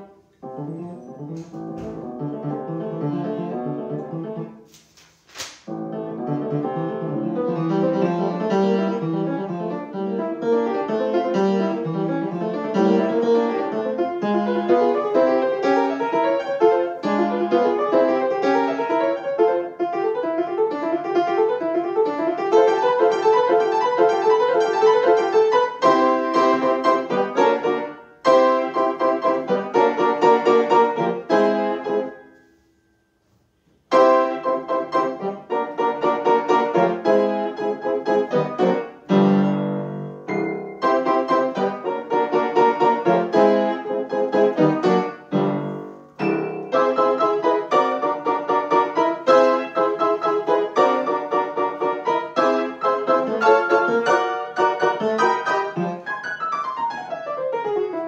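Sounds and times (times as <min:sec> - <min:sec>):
grand piano playing: 0:00.0 - 0:04.7, 0:05.7 - 0:32.7, 0:33.9 - 0:58.0.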